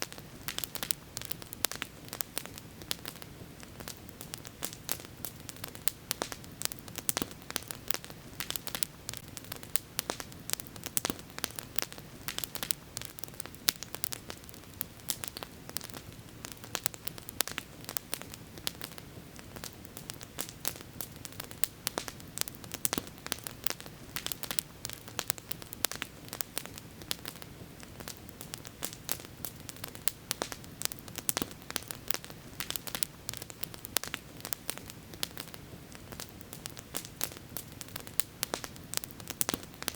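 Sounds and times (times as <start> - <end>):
campfire crackling and popping: 0.0 - 39.9
low hiss: 0.0 - 39.9.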